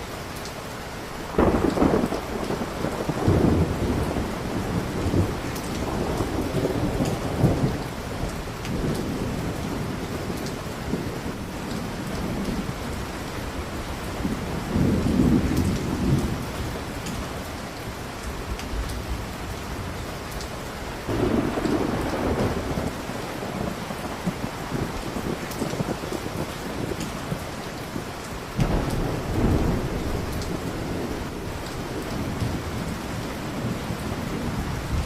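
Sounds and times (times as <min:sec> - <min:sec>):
steady rain: 0:00.0 - 0:35.0
low rolls of thunder: 0:01.3 - 0:17.6, 0:21.0 - 0:35.0.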